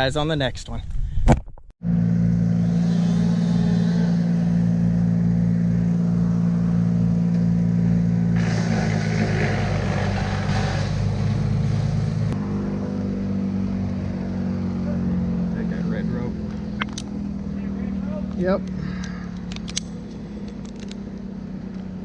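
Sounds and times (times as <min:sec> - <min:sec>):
engine running steadily: 0:01.8 - 0:22.0.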